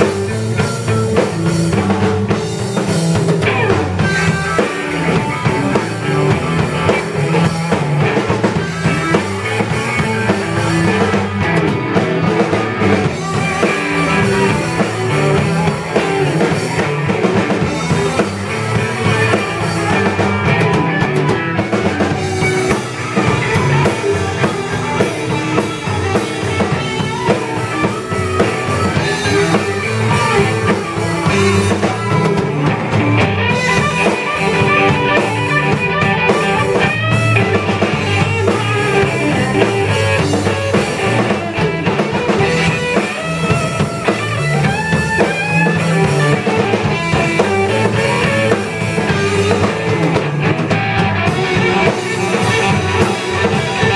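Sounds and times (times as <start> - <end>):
drum kit: 0.0 - 53.9
electric guitars: 0.0 - 53.9.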